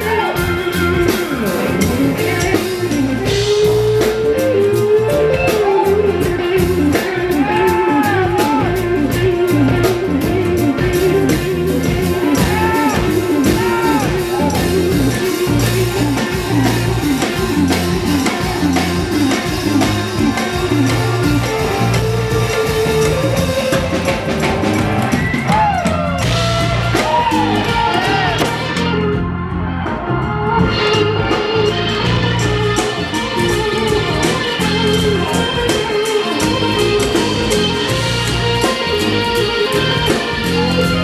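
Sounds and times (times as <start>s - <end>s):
electric guitar: 0.0s - 41.0s
live band music: 0.0s - 41.0s.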